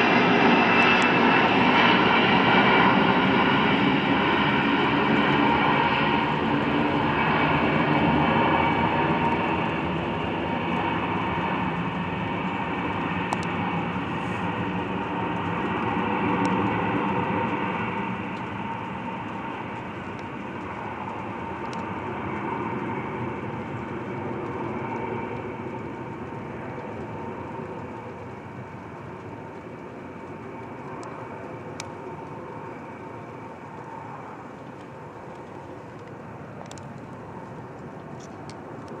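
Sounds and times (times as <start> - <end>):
jet engines rumbling with whine: 0.0 - 39.0.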